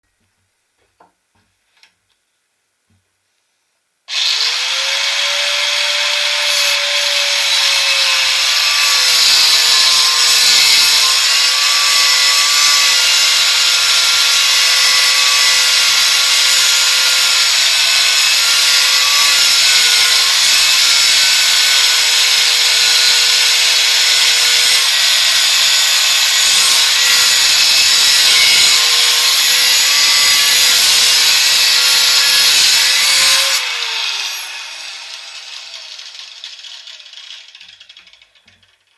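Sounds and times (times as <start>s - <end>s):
grinder motor whine: 4.1s - 37.9s.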